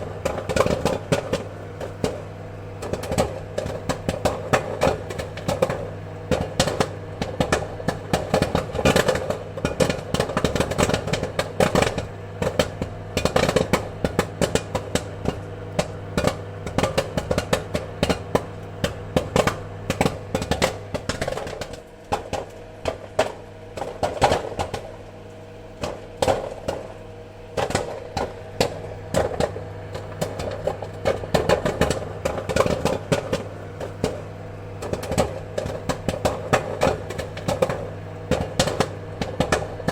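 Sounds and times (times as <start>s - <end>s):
popcorn kernels popping: 0.0s - 39.9s
steady low hum: 0.0s - 39.9s.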